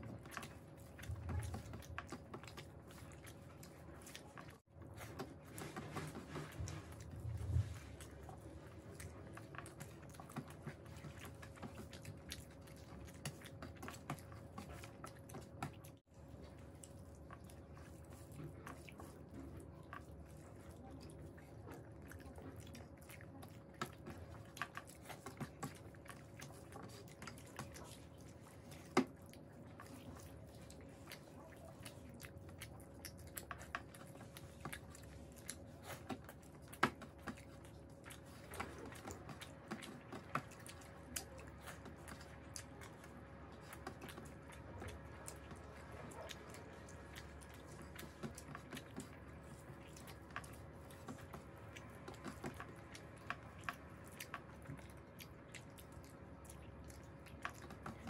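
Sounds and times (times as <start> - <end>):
wet chewing and lip smacks: 0.0 - 58.0.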